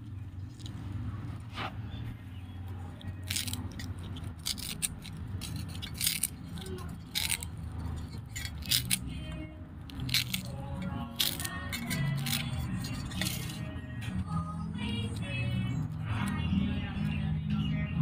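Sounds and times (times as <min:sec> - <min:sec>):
low steady hum: 0:00.0 - 0:18.0
twine scratching and rasping: 0:00.4 - 0:17.2.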